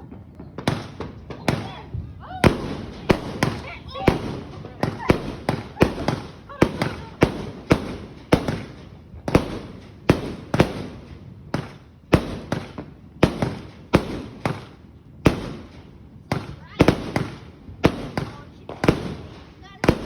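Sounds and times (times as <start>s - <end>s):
firework cake bangs: 0.2s - 20.0s.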